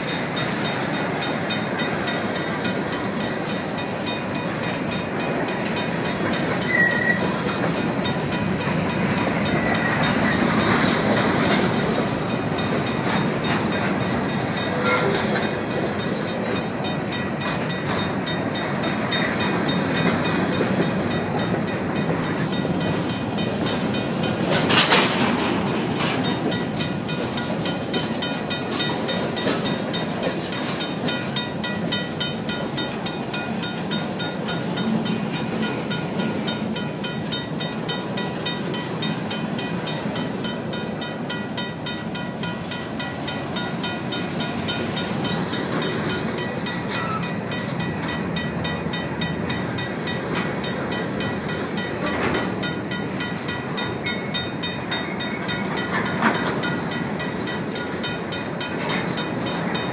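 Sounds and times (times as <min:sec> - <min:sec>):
crossing bell ringing: 0:00.0 - 0:59.9
train wheels rumbling on rail: 0:00.0 - 0:59.9
wheels clickety-clack: 0:00.0 - 0:59.9.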